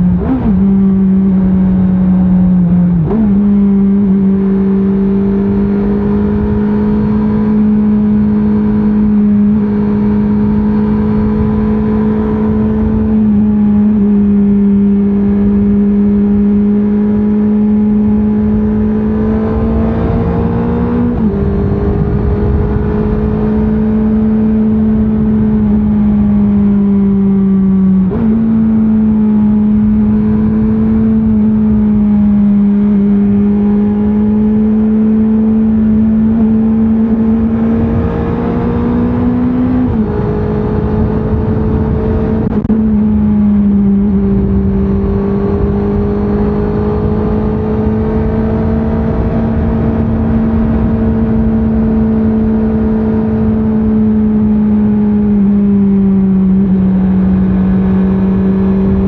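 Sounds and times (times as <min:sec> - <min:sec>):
motorcycle engine running hard: 0:00.0 - 0:59.0
wind and road rush: 0:00.0 - 0:59.0.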